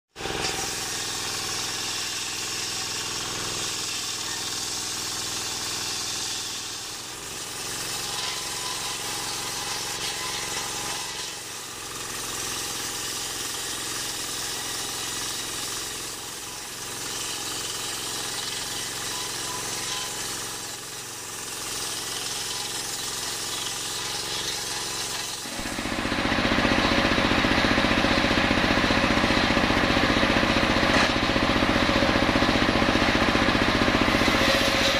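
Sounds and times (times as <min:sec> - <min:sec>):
table saw cutting log: 0:00.1 - 0:34.9.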